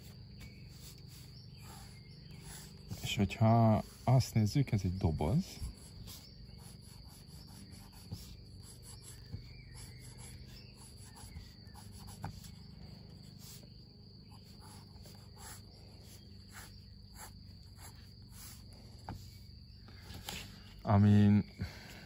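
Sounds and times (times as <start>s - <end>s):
pencil scratching on paper: 0.0s - 4.4s, 5.4s - 19.3s
insects chirring: 0.0s - 22.0s.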